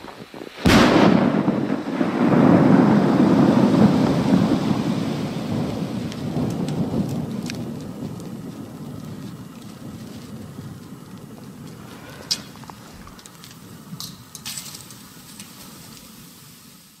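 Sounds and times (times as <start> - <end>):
firework sharp cracks: 0.0 - 16.9
low rumble of firework burst: 0.0 - 17.0.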